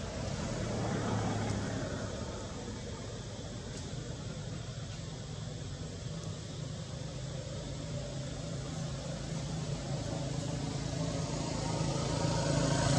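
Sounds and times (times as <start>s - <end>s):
engine humming: 0.0s - 12.9s.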